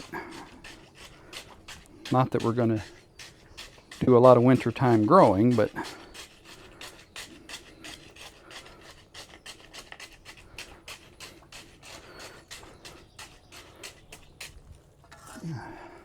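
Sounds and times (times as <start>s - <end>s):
hand tool scraping wet concrete: 0.0s - 16.0s.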